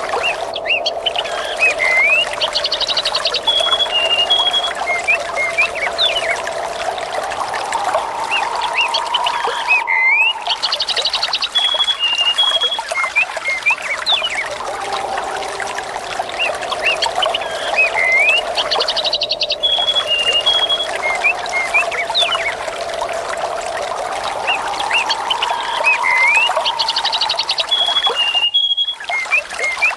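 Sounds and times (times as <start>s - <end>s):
birds chirping: 0.0s - 29.9s
water trickling and splashing: 0.0s - 29.9s
whistled bird notes: 0.0s - 29.9s.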